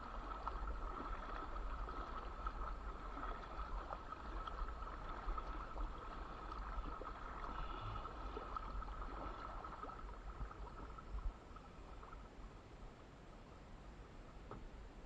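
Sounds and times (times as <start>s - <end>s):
paddle strokes in water: 0.0s - 13.0s
water splashing and gurgling: 0.0s - 13.0s.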